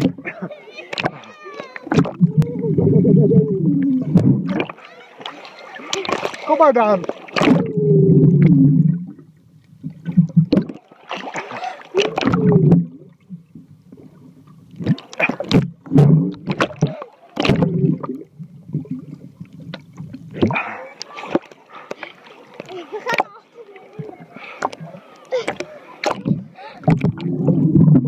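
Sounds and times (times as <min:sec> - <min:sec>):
underwater bubbling and rushing: 0:00.0 - 0:23.2, 0:23.9 - 0:28.0.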